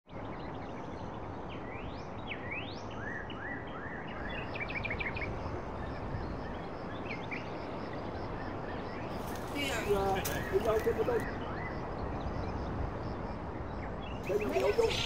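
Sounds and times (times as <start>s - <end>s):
outdoor background hiss: 0.2s - 15.0s
birds calling: 1.4s - 15.0s.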